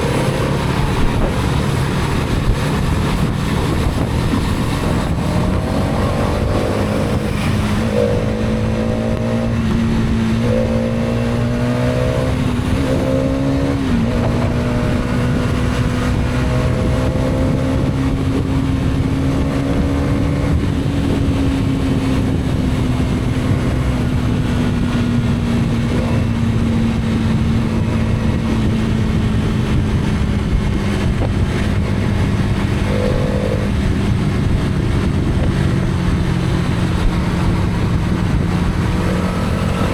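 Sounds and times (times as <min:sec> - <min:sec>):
motorcycle engine humming: 0:00.0 - 0:39.9.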